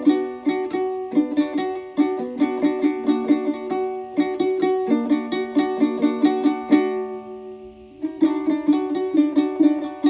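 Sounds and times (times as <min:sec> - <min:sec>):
plucked string instrument melody: 0:00.0 - 0:10.0.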